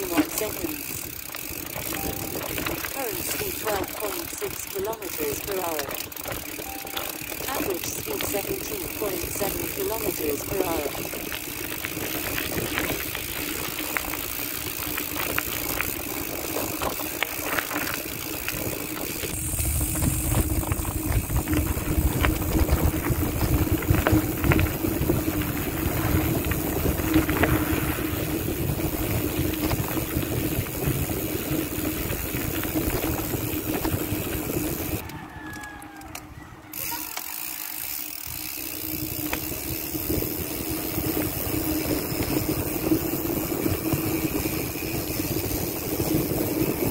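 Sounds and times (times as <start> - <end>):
bicycle freehub ratcheting: 0.0 - 46.9.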